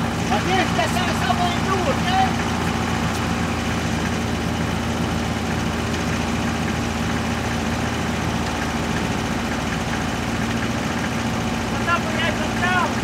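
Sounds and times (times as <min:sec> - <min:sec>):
excavator engine idling: 0:00.0 - 0:13.0.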